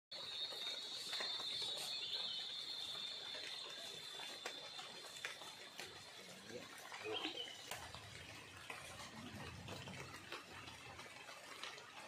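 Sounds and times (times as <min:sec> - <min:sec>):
light rain on river: 0:00.1 - 0:12.0.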